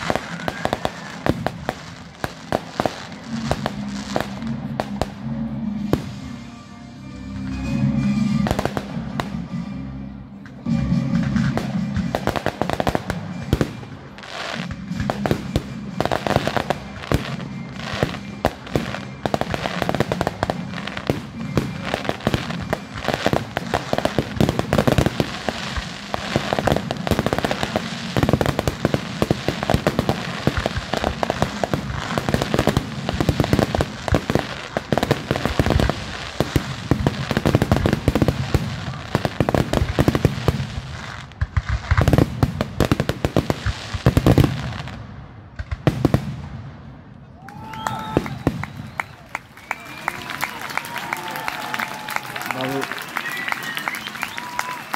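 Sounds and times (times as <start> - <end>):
fireworks bangs and crackles: 0.0 - 6.5, 7.4 - 54.9.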